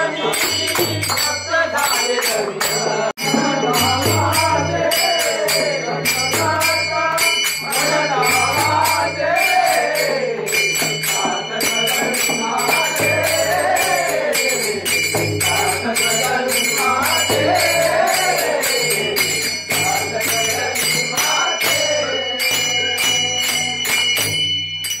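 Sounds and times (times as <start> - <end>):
devotional singing: 0.0 - 23.9
jingling percussion: 0.0 - 25.0.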